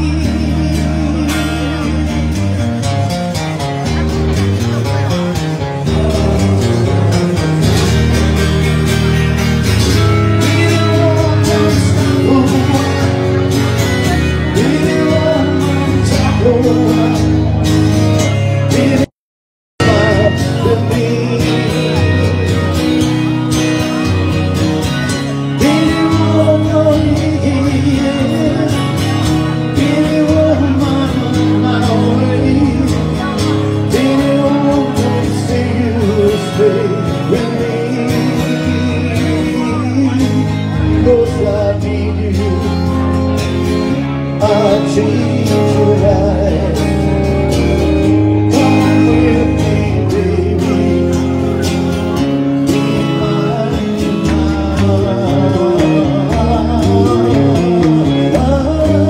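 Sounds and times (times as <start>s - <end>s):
electric guitar: 0.0s - 19.1s, 19.8s - 59.0s
man singing into microphone: 0.0s - 19.1s, 19.8s - 59.0s.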